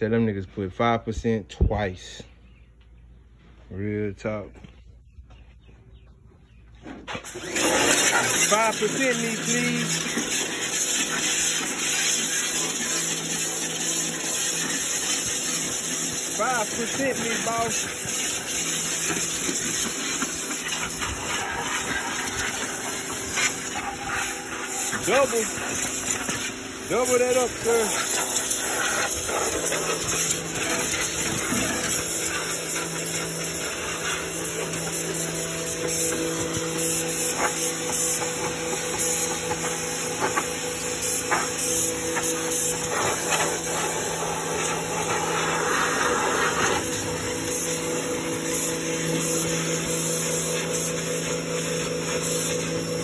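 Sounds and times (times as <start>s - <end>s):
pressure washer jet hissing on metal: 7.2s - 53.0s
steady hum: 7.8s - 53.0s.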